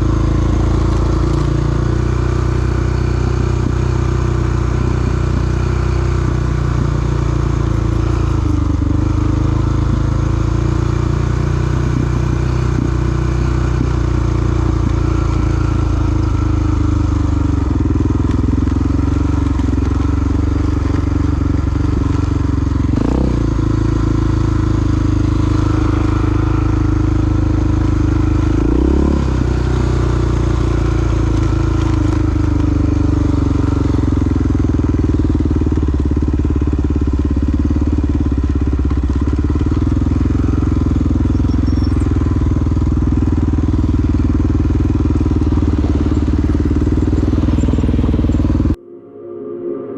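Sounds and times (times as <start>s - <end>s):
motorcycle engine running: 0.0s - 48.8s.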